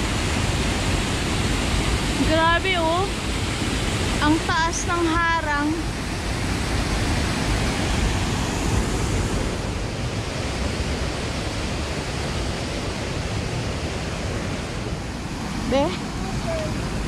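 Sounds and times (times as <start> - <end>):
water rushing over weir and stones: 0.0 - 17.0.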